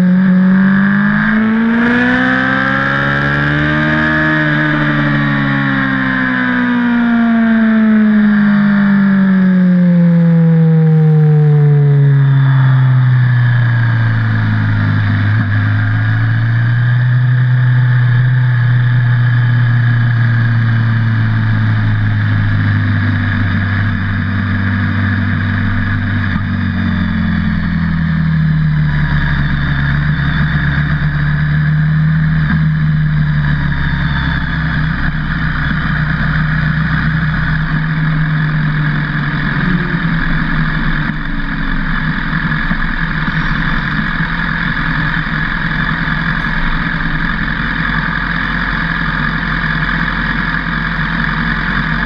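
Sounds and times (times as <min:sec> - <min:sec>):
motorcycle engine at low revs: 0:00.0 - 0:52.0.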